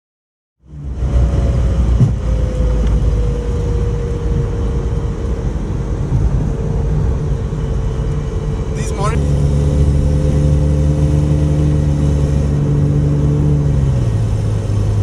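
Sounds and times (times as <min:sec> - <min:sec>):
low exhaust rumble: 0:00.6 - 0:15.0.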